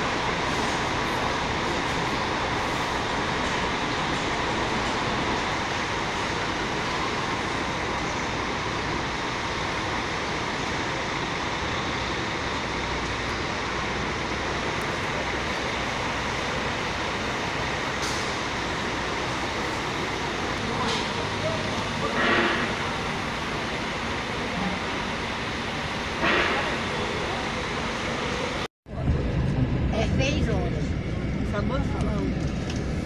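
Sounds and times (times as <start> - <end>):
diesel coach engines running: 0.0 - 33.0.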